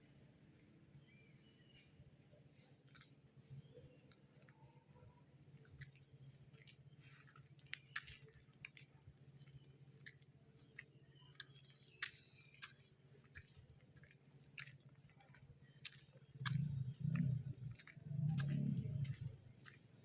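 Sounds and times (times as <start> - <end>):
low steady hum: 0.0 - 20.0
faint irregular clicks: 2.7 - 20.0.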